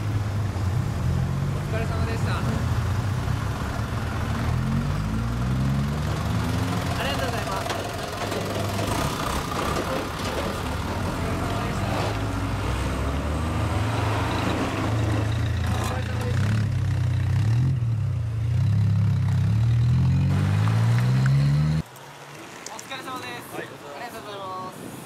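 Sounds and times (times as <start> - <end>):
cars driving slowly past: 0.0 - 24.4
engine revving: 0.7 - 21.8.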